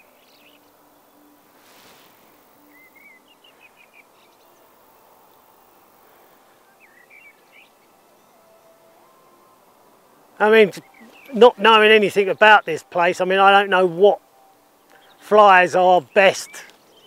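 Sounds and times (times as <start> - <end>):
small birds twittering: 0.0 - 8.9, 10.4 - 17.0
faint outdoor background hiss: 0.0 - 17.0.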